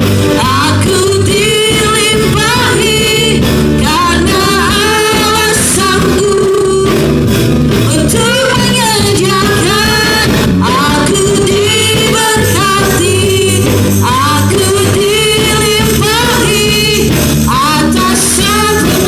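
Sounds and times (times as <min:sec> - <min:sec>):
band accompaniment: 0:00.0 - 0:19.0
steady bass line: 0:00.0 - 0:19.0
people singing worship music: 0:00.3 - 0:19.0.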